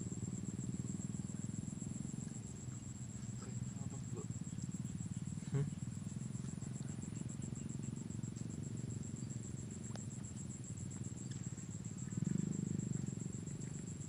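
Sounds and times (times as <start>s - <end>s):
insect trilling: 0.0s - 14.0s
steady low hum: 0.0s - 14.0s.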